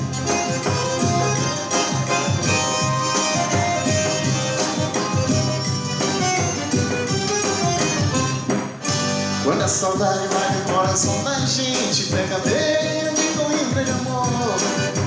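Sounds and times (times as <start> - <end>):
instrumental band music: 0.0 - 15.0.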